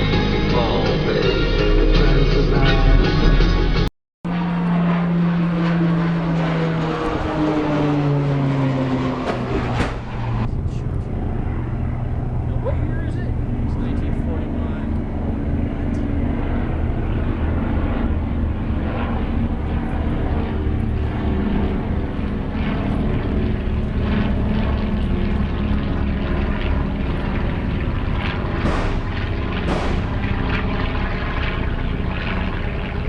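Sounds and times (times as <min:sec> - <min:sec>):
truck engine drone: 0:00.0 - 0:33.0.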